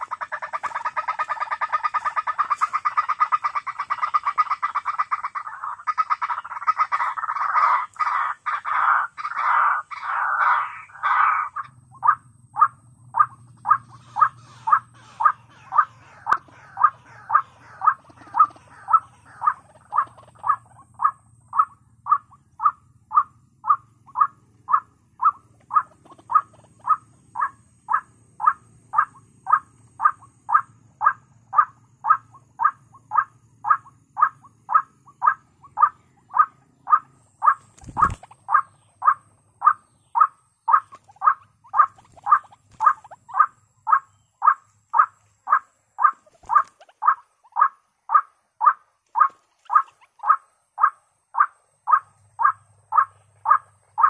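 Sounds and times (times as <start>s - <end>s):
harsh bird calls from loudspeaker: 0.0s - 54.0s.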